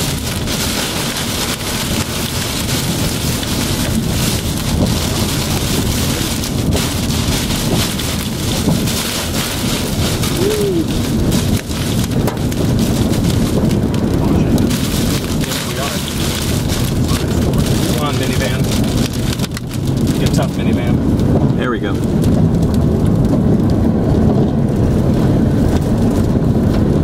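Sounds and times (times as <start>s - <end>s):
heavy rain on car windshield: 0.0s - 27.0s
low rumble: 0.0s - 27.0s.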